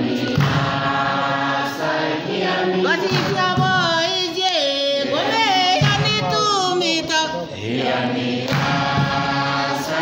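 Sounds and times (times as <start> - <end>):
group of people singing: 0.0 - 10.0.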